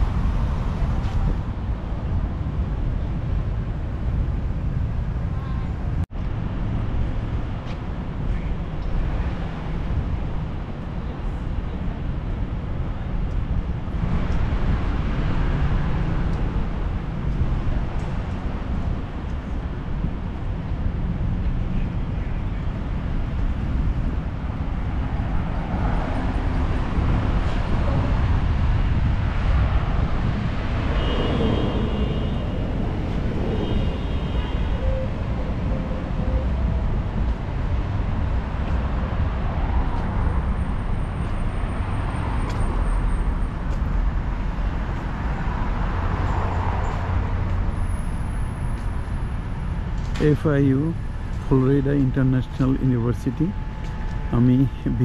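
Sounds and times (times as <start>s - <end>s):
cars passing: 0.0s - 55.0s
steady low traffic rumble: 0.0s - 55.0s.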